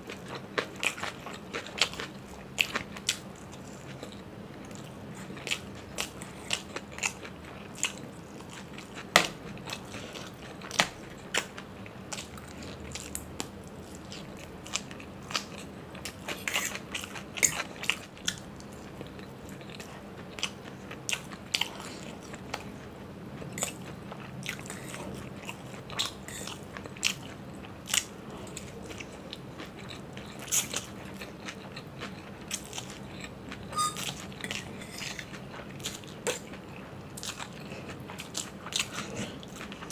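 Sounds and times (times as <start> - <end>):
person chewing noodles: 0.0 - 39.9.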